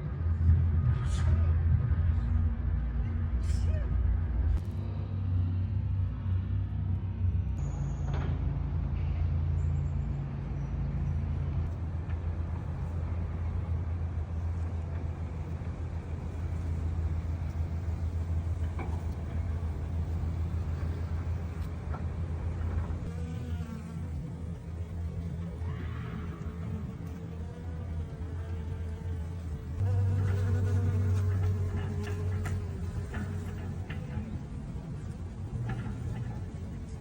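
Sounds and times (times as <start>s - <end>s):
low droning hum: 0.0s - 37.0s.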